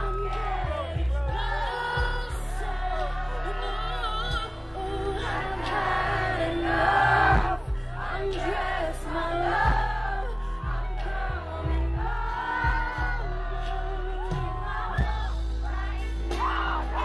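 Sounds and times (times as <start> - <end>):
crowd voices: 0.0 - 17.0
live pop song over sound system: 0.0 - 17.0.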